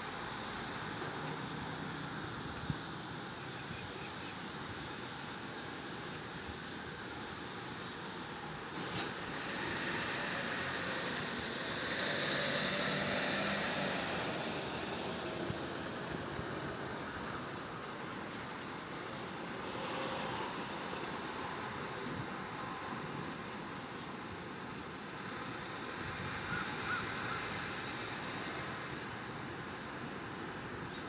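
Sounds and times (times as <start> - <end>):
vehicle passing with a hiss: 0.0 - 3.4, 4.6 - 30.9.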